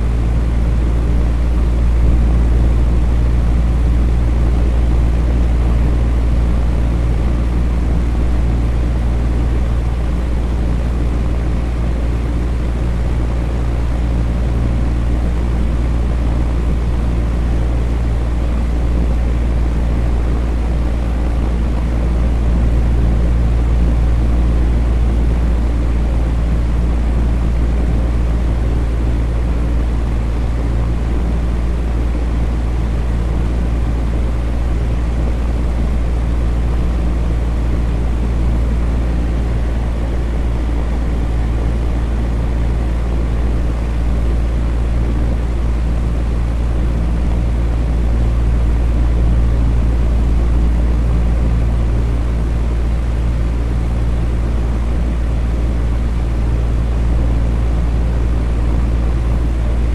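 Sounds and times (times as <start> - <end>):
electric fan motor hum: 0.0 - 59.9.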